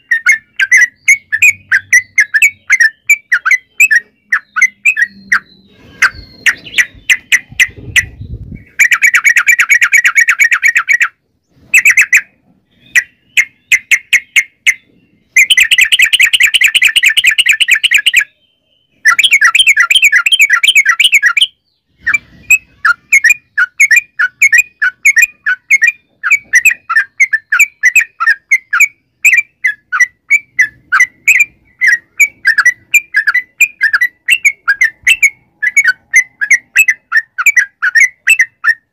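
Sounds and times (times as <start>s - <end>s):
bird singing rapid chirps: 0.0s - 38.9s.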